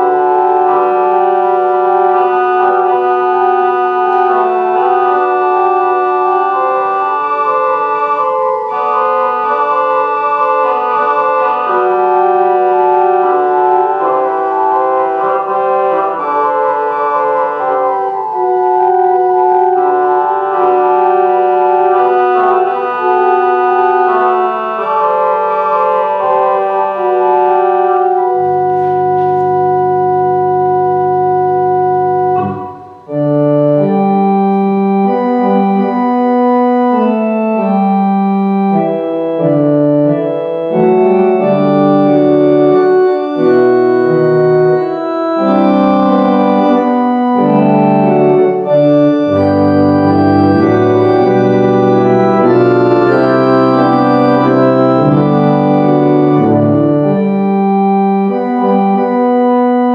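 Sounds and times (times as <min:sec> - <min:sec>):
organ playing chords: 0:00.0 - 0:59.9.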